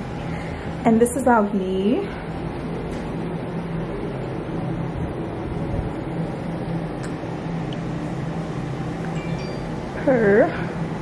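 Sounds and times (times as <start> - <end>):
low constant hum: 0.0 - 11.0
urban rumble: 0.0 - 11.0.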